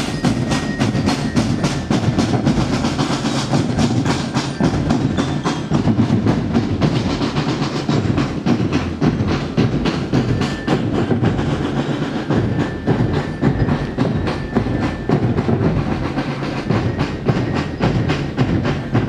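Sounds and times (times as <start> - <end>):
band music with fast drum beat: 0.0 - 19.0.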